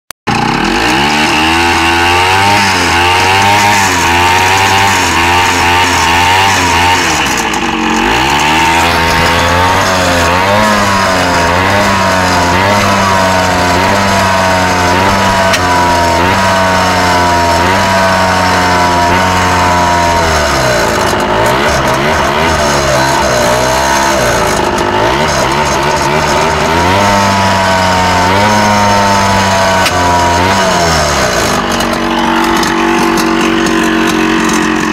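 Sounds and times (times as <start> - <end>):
scooter engine revving unevenly: 0.3 - 34.9.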